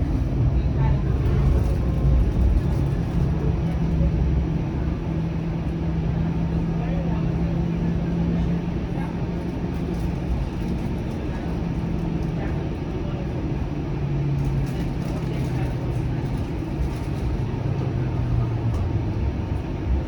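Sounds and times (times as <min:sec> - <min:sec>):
streetcar wheels rumbling on rails: 0:00.0 - 0:20.0.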